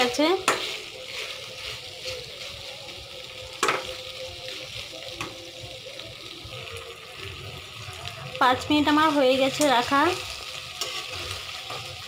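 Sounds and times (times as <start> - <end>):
beans sizzling in a pan: 0.0 - 12.0.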